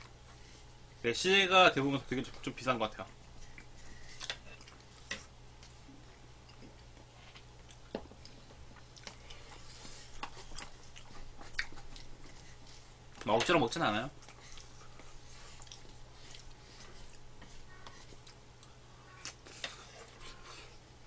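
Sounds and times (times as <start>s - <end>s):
steady low hum: 0.0s - 21.0s
faint chewing: 2.2s - 13.3s, 14.1s - 20.9s.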